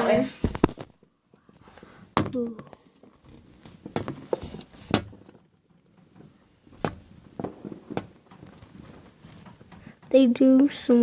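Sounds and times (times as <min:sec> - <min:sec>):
sharp pops and knocks: 0:00.4 - 0:10.2.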